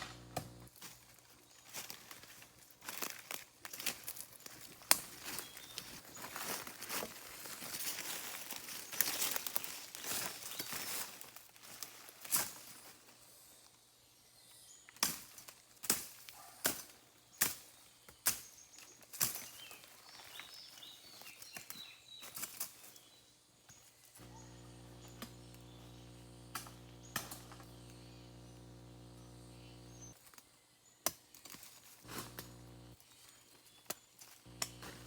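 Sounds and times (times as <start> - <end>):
rustling and crackling leaves: 0.0 - 13.8, 14.8 - 35.0.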